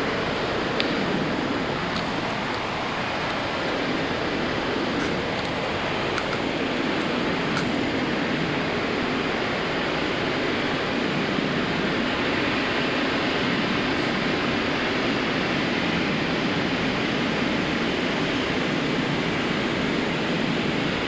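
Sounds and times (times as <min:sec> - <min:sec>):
ocean surf on beach: 0:00.0 - 0:21.0.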